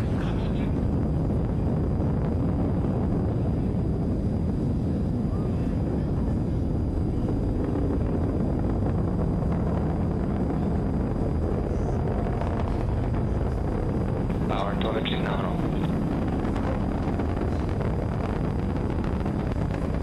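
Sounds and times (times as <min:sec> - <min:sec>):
rocket engines rumbling: 0:00.0 - 0:20.0.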